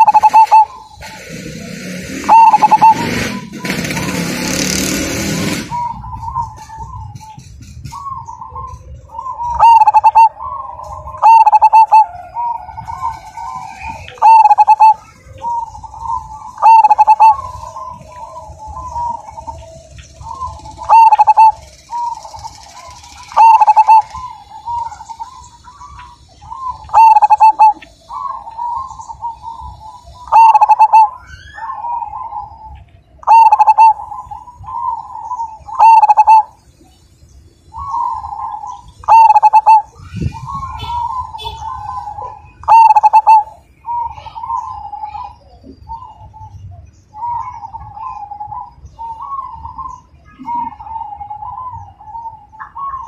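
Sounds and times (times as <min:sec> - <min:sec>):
dove cooing: 0:00.0 - 0:36.6, 0:37.7 - 0:53.0.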